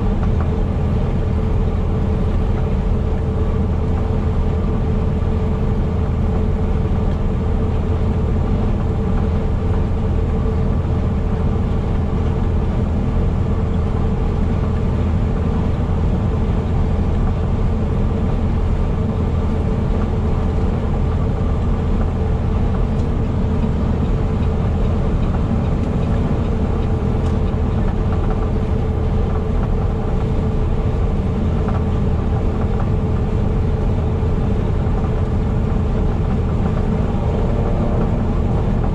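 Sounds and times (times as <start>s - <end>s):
heavy truck engine drone: 0.0s - 38.9s
road noise: 0.0s - 38.9s.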